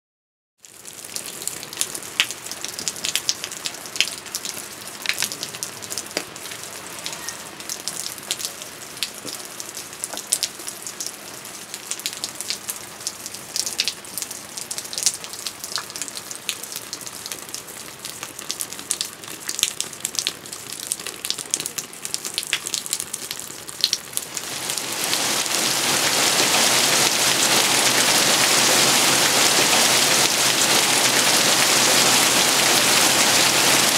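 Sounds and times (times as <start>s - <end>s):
heavy rain downpour: 0.6s - 33.9s
rain drops tapping: 0.6s - 33.9s.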